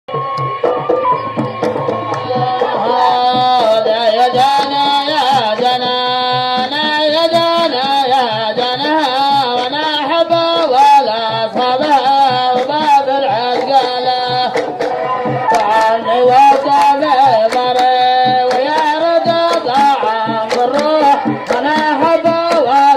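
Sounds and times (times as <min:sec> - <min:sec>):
hand drum beat: 0:00.1 - 0:22.9.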